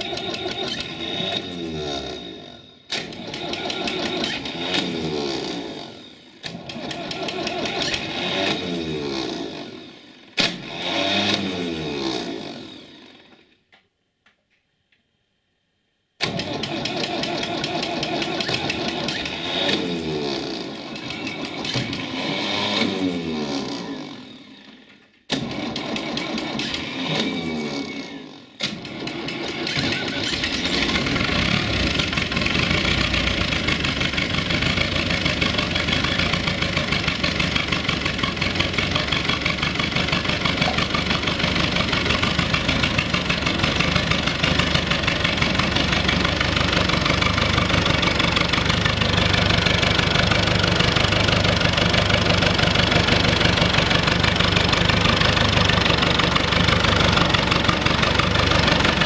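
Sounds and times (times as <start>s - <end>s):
tractor diesel engine clatter: 0.0s - 2.2s, 2.9s - 9.2s, 16.2s - 22.9s, 25.3s - 27.5s, 28.6s - 59.0s.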